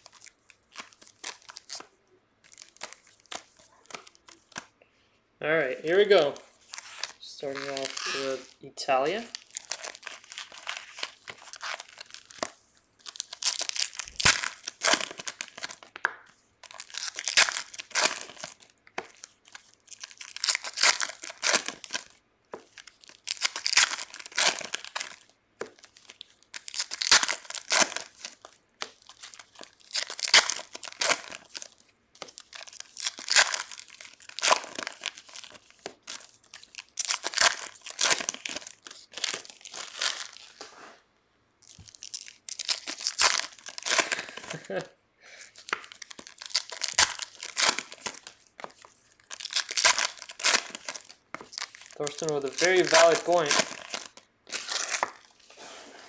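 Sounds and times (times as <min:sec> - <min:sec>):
foil wrappers tearing and crinkling: 0:00.0 - 0:04.6, 0:05.9 - 0:16.0, 0:16.6 - 0:40.6, 0:41.6 - 0:55.6.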